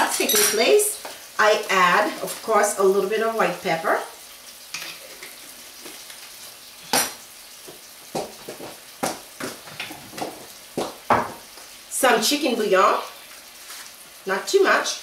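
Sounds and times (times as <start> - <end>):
sauce sizzling in a skillet: 0.0 - 15.0.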